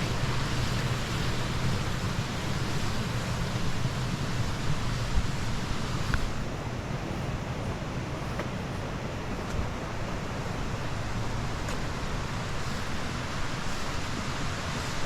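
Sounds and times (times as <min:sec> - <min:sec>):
outdoor rushing noise: 0:00.0 - 0:15.0.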